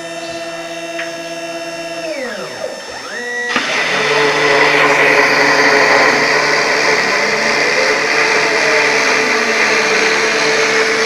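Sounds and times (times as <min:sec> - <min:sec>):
router motor whining while cutting: 0:00.0 - 0:11.0.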